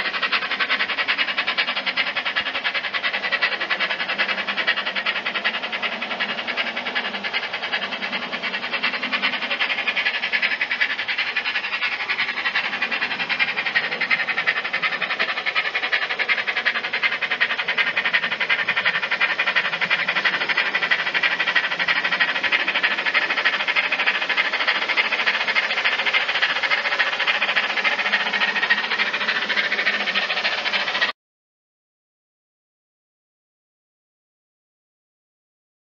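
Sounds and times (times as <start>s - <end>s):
steady steam hiss: 0.0s - 31.1s
steam locomotive chuffing from speaker: 0.0s - 31.2s.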